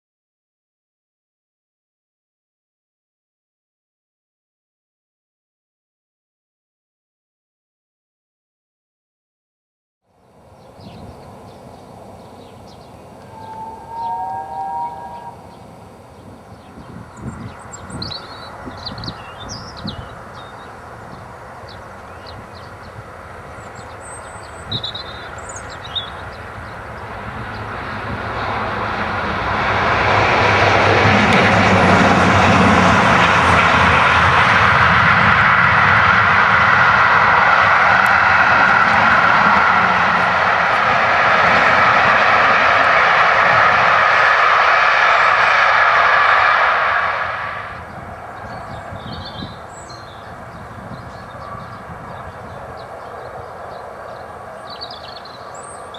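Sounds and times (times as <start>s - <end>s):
steam locomotive rushing: 10.4s - 55.9s.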